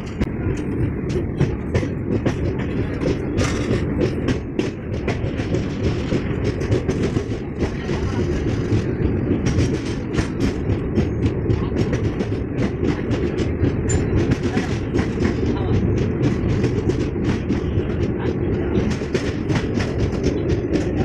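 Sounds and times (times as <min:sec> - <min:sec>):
clicking and rattling of train: 0:00.0 - 0:21.0
train wheels rumbling on rail: 0:00.0 - 0:21.0.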